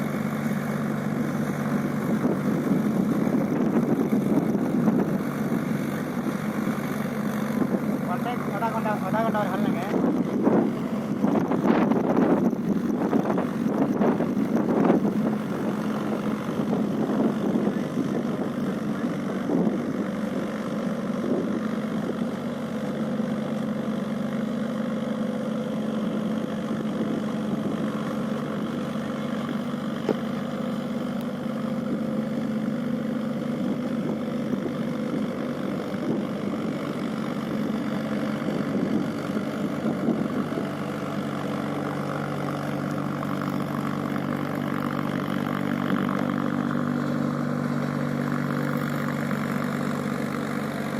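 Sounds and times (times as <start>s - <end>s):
tractor diesel engine idling: 0.0s - 50.9s.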